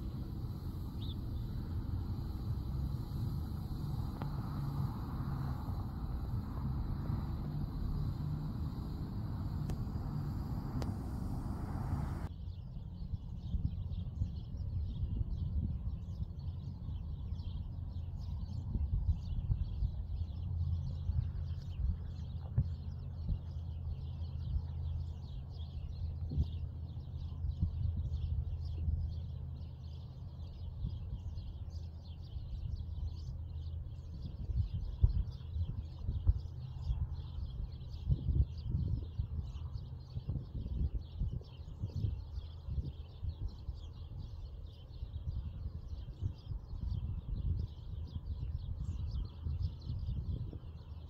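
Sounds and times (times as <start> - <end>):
small birds chirping: 0.0 - 12.3, 13.4 - 51.0
steady low rumble: 0.0 - 50.8.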